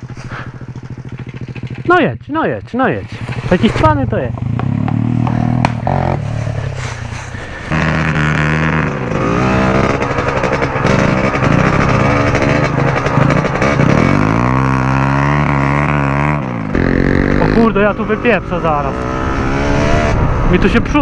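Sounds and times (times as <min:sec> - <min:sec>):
small motorbike engine revving: 0:03.1 - 0:20.4.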